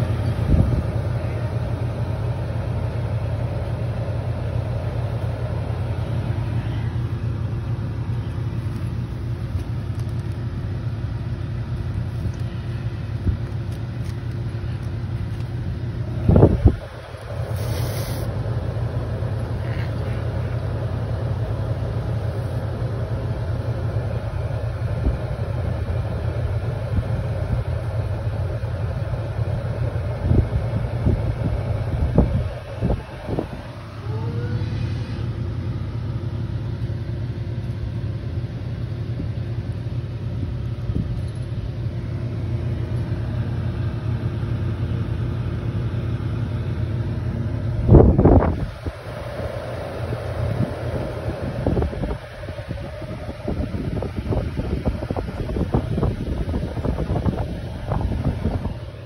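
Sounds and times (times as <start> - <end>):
air cooler fan running: 0.0 - 59.0.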